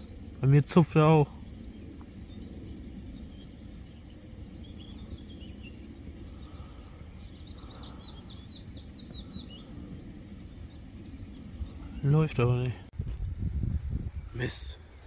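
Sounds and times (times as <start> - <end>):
low background rumble: 0.0 - 15.0
songbird singing: 0.0 - 15.0.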